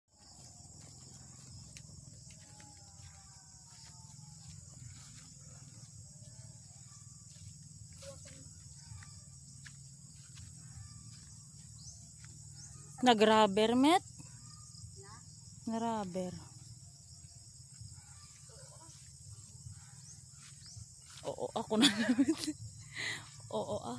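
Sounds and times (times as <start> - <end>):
insects trilling: 0.1 - 23.9.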